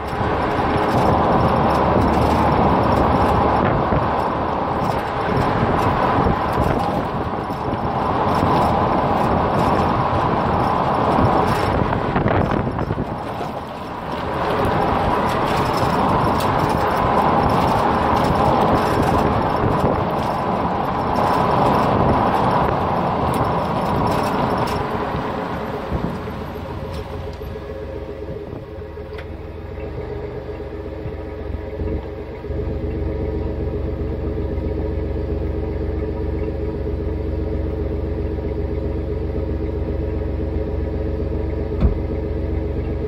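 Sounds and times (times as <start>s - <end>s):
road and wind noise: 0.0s - 43.0s
van exhaust while driving: 0.0s - 43.0s.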